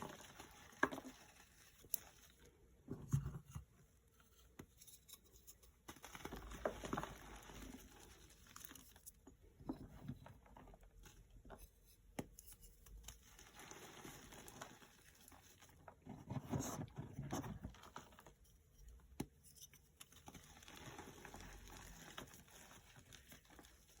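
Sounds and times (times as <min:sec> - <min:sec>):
chalk crunching and crumbling: 0:00.0 - 0:02.6, 0:04.2 - 0:24.0.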